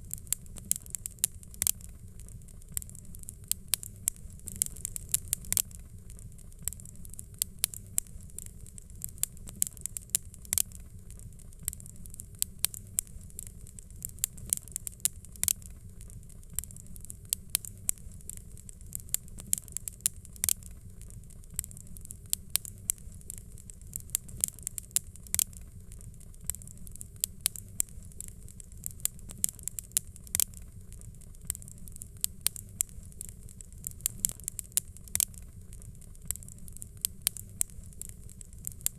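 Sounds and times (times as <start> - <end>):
fire crackling and popping: 0.0 - 38.9
flames rumbling and hissing: 0.0 - 38.9.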